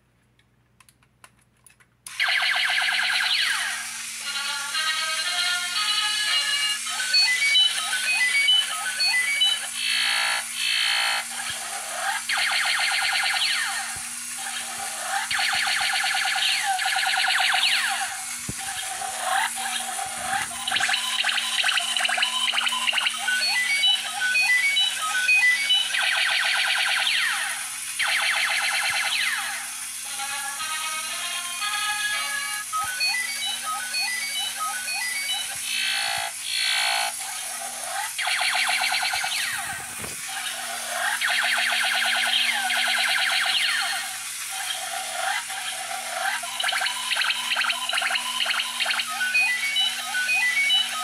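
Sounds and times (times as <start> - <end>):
toy motor hum: 2.1 - 51.0
toy robot beeping tunes: 2.1 - 51.0
laser-fire warbles: 2.2 - 5.2, 5.8 - 30.4, 32.0 - 51.0.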